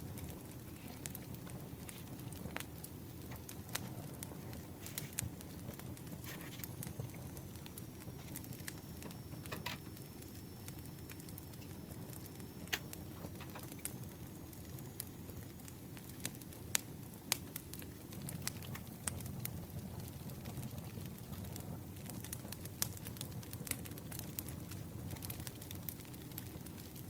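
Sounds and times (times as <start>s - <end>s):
campfire crackling: 0.0s - 27.0s
fire pops and snaps: 0.0s - 27.0s.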